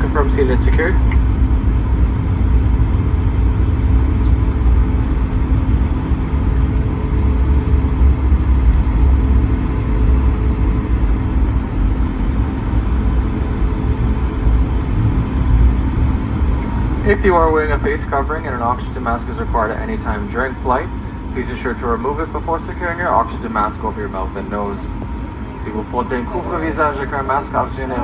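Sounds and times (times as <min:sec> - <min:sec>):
airplane cabin rumble and drone: 0:00.0 - 0:28.0
steady hum tones: 0:00.0 - 0:28.0.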